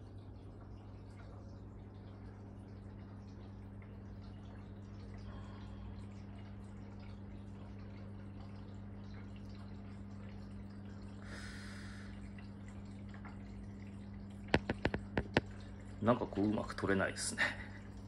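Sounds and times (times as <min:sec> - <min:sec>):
aquarium filter hum: 0:00.0 - 0:18.0
water trickling and dripping: 0:00.0 - 0:18.0.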